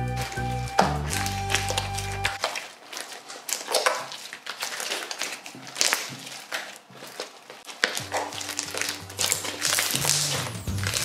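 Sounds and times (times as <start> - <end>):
slime crackling and squishing: 0.0 - 11.0.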